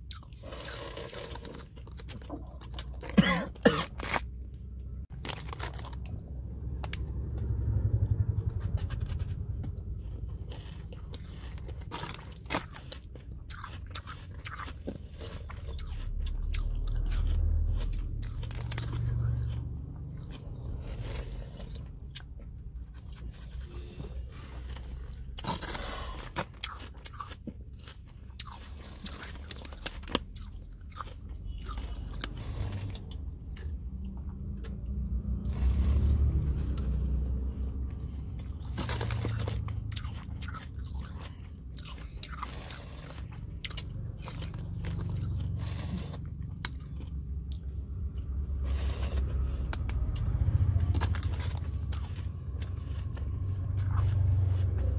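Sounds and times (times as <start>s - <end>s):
chewing and crunching ice: 0.0s - 54.9s
low rumble: 4.0s - 26.6s, 27.7s - 54.9s.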